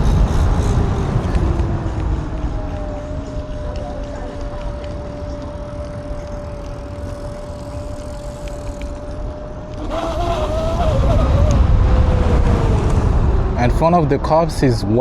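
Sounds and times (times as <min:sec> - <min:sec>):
electric motor high whine: 0:00.0 - 0:13.6
wind rushing over microphone: 0:00.0 - 0:15.0.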